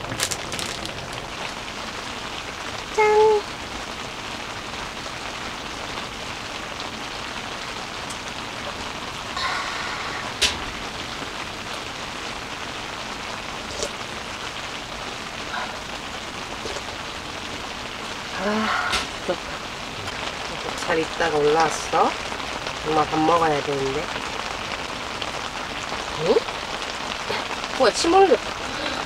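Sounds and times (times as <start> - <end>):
rain pattering on tent fabric: 0.0 - 29.0.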